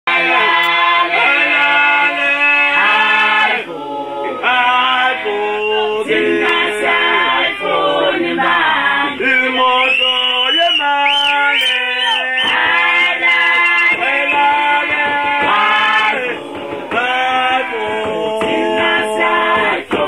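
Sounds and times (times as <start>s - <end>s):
group singing in harmony: 0.1s - 20.0s.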